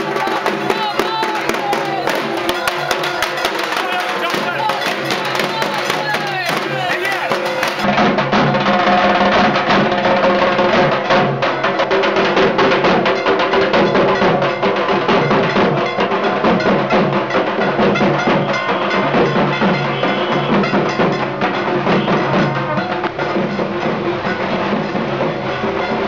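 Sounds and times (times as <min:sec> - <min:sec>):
drums beaten fast with sticks: 0:00.0 - 0:26.0.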